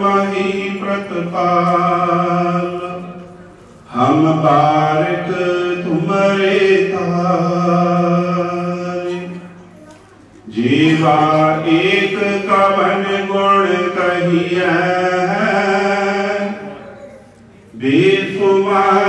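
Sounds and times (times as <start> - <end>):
person singing a hymn: 0.0 - 19.0.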